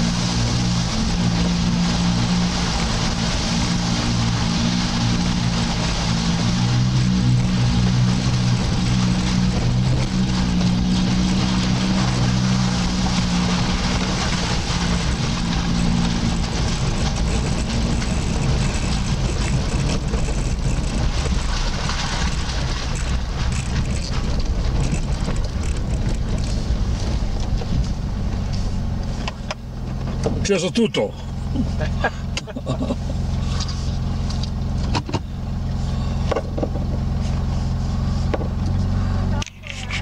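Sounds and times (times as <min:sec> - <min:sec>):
off-road vehicle engine and tyre rumble: 0:00.0 - 0:40.0.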